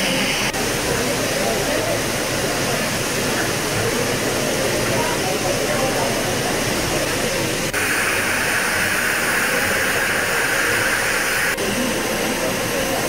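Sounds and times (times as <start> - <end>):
steam escaping loudly: 0.0 - 13.0
steam locomotive hissing: 0.0 - 13.0.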